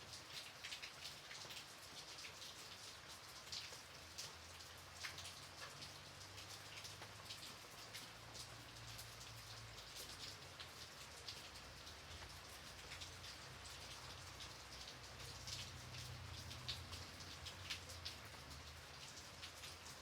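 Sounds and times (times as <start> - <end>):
light rain falling: 0.0 - 20.0.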